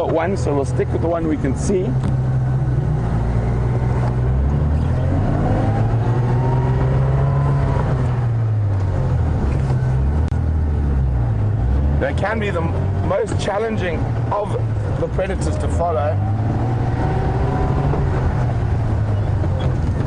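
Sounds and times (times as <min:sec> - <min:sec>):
vehicle engine driving: 0:00.0 - 0:20.0.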